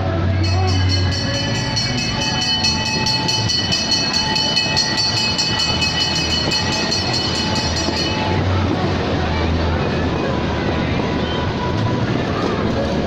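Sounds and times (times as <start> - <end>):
ride train clicking on track: 0.4 - 13.0.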